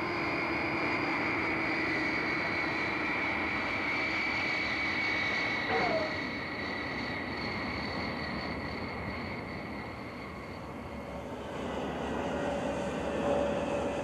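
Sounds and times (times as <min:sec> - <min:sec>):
jet engine rushing whine: 0:00.0 - 0:14.0
lower steady engine tone: 0:00.0 - 0:14.0.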